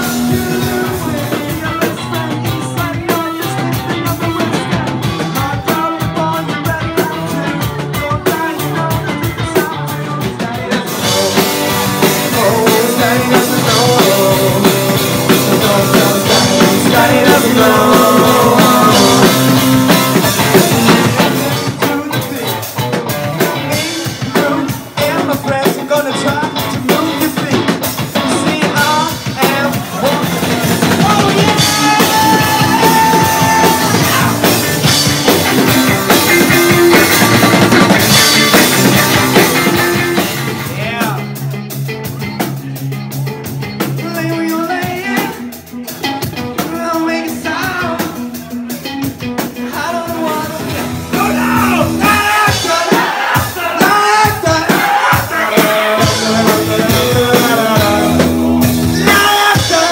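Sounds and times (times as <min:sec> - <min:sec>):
person singing lead vocal: 0:00.0 - 0:42.8, 0:43.8 - 0:59.9
live rock band playing: 0:00.0 - 0:59.9.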